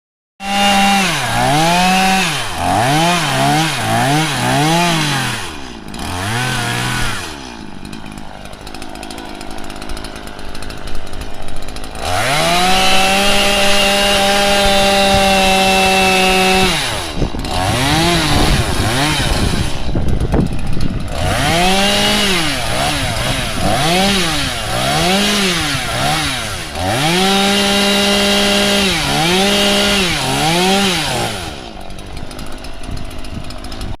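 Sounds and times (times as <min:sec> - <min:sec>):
chainsaw revving: 0:00.4 - 0:34.0.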